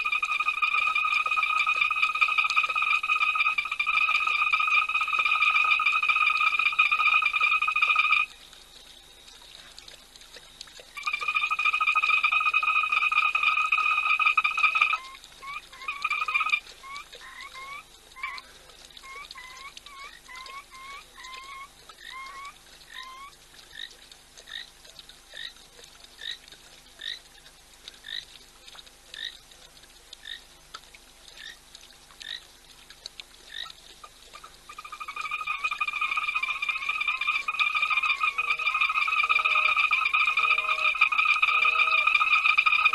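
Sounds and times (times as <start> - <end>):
frogs trilling: 0.0 - 8.4, 10.3 - 28.4, 29.1 - 29.5, 30.2 - 30.6, 31.3 - 32.6, 33.4 - 42.9.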